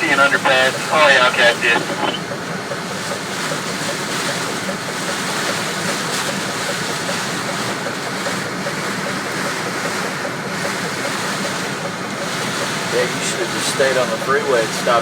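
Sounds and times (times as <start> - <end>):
heavy rain and wind on truck: 0.0 - 15.0.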